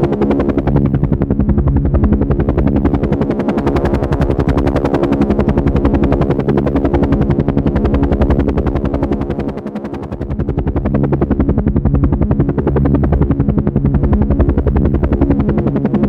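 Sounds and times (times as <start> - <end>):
helicopter engine whine: 0.0 - 16.0
helicopter rotor blades beating: 0.0 - 16.0.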